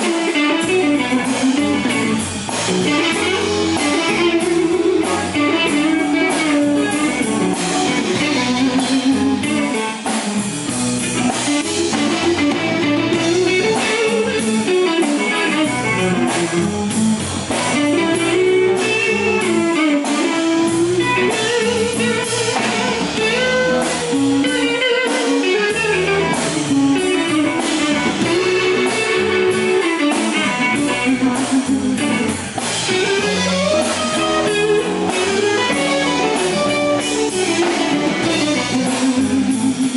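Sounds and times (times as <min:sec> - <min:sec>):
bass guitar: 0:00.0 - 0:39.9
drums: 0:00.0 - 0:39.9
lead electric guitar: 0:00.0 - 0:39.9.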